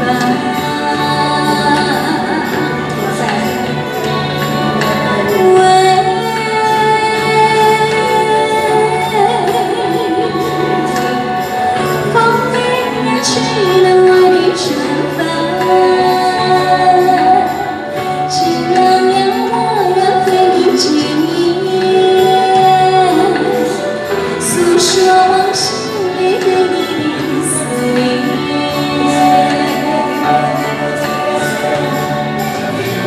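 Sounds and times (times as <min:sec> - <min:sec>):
person singing melodic song: 0:00.0 - 0:33.0.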